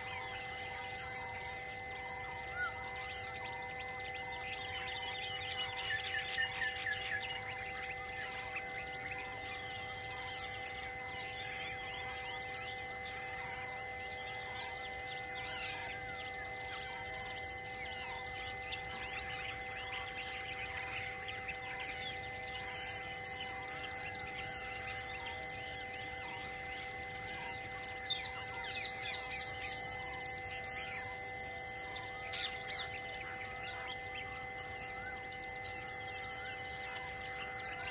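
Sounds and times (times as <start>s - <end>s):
insect chirping: 0.0s - 37.9s.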